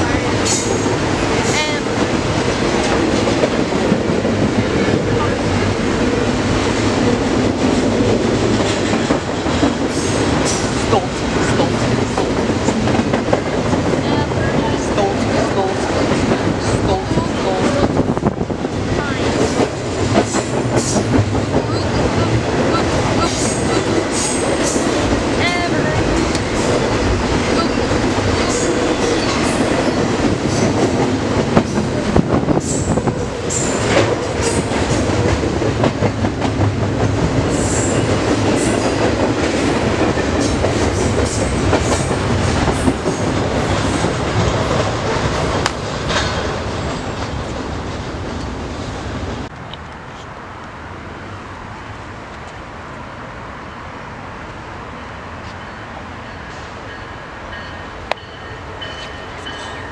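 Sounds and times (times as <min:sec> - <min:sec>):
train cars clanking: 0:00.0 - 0:50.2, 0:54.9 - 0:59.9
train wheels rumbling on rails: 0:00.0 - 0:59.9.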